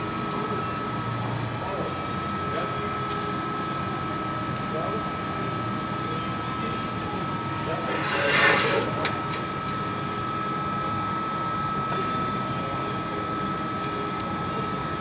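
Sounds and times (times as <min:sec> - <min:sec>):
machine hum with high whine: 0:00.0 - 0:15.0.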